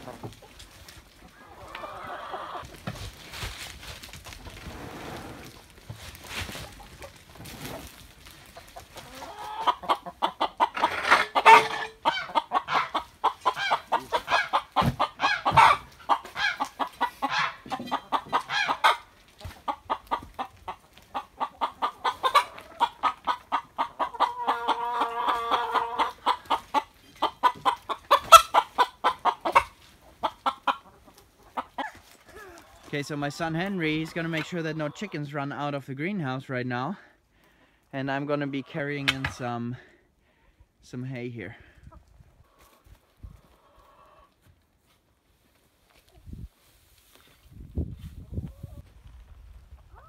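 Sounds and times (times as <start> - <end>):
hens clucking: 0.0 - 40.7, 41.7 - 44.6, 49.7 - 50.0.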